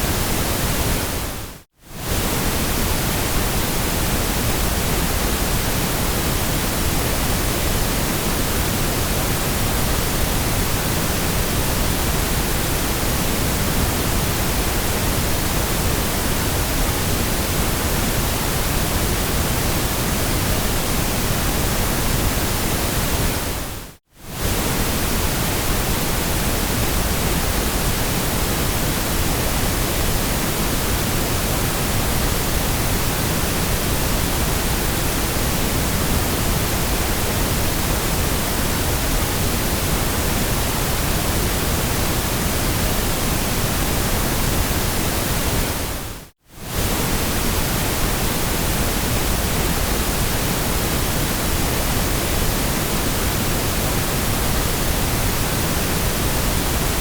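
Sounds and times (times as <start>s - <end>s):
steady white noise hiss: 0.0s - 57.0s.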